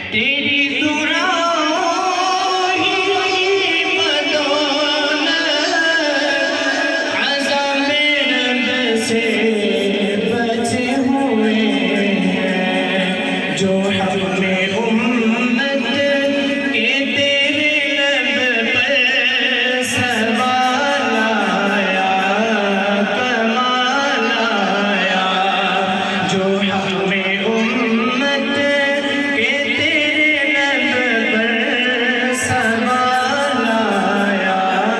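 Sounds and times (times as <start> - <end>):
man singing unaccompanied: 0.0 - 34.9.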